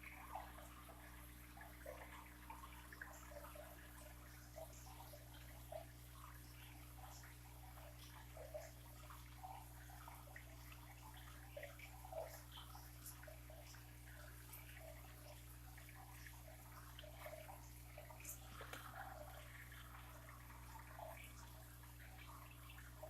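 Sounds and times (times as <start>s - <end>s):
aquarium water bubbling: 0.0s - 23.0s
low steady hum: 0.0s - 23.0s.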